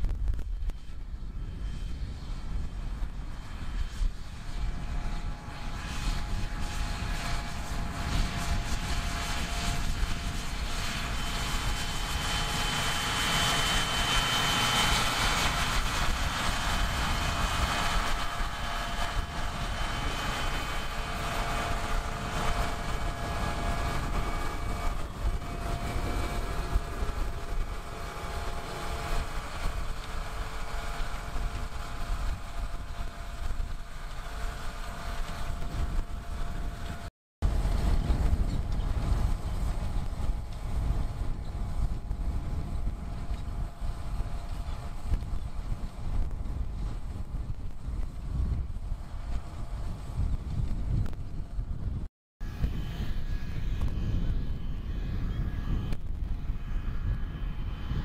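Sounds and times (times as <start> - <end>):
faint high whine: 0.0 - 51.8, 52.4 - 58.0.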